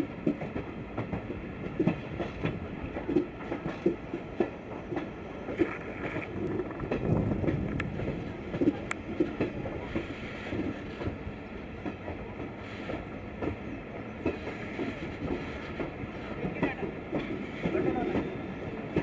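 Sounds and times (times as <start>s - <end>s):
train rumble: 0.0s - 19.0s
train wheels clattering on track: 0.0s - 19.0s.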